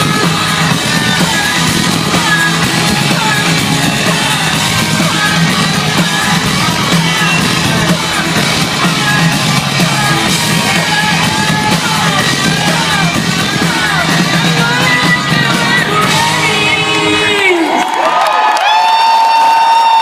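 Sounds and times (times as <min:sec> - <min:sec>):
loud live rock music: 0:00.0 - 0:18.0
crowd whooping and yelling: 0:00.0 - 0:20.0.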